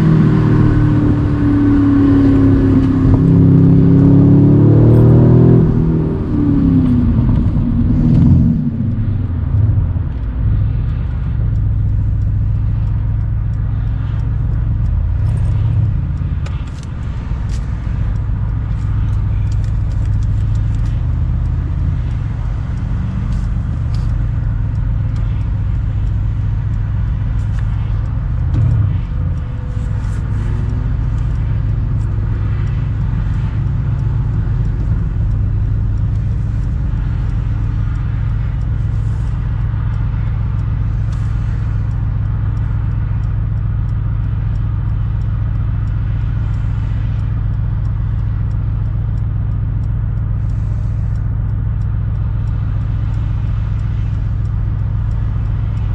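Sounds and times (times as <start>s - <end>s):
car engine droning: 0.0s - 55.9s.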